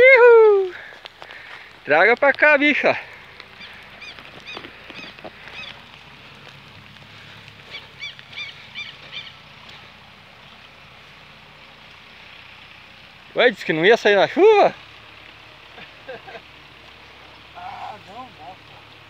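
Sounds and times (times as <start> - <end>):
rain hissing on water and grass: 0.0 - 19.0.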